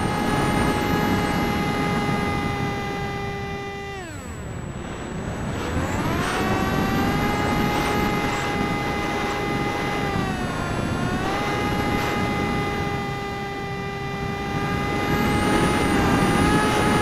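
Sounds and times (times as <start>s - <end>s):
electric motor and propeller whining: 0.0s - 17.0s
wind rushing over microphone: 0.0s - 17.0s.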